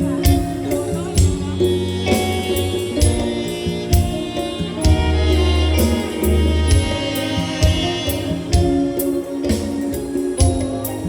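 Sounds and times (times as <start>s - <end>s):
steady drum beat: 0.0s - 11.0s.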